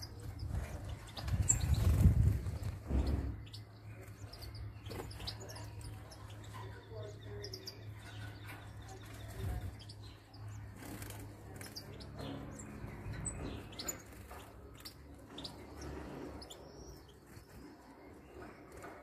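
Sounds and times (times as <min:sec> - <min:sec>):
finches chirping: 0:00.0 - 0:19.0.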